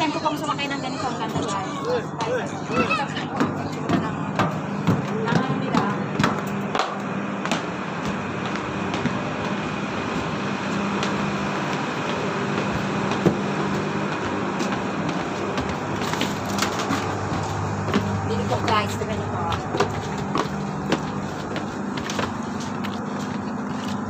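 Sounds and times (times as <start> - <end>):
boat machinery humming: 0.0 - 24.0
faint footsteps: 0.0 - 24.0.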